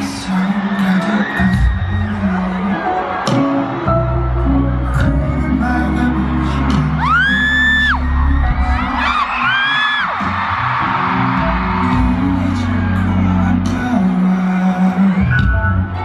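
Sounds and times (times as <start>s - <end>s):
fans screaming: 0.0s - 16.0s
pop music over stadium speakers: 0.0s - 16.0s.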